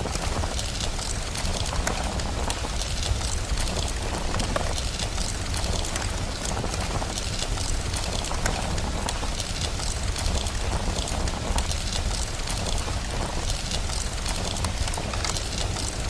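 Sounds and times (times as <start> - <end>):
fire crackling: 0.0 - 16.0
steady rain: 0.0 - 16.0.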